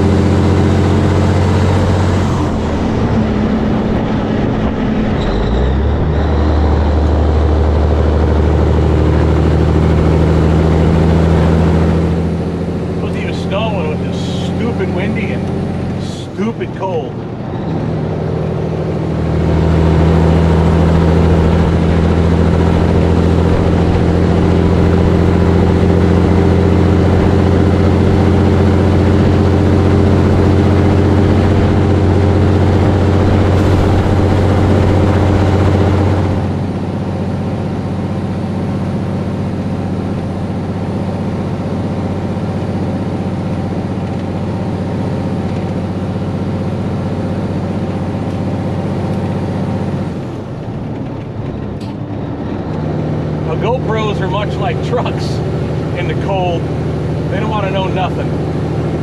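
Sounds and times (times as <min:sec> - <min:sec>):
truck engine drone: 0:00.0 - 0:59.0
tyre and road noise: 0:00.0 - 0:59.0.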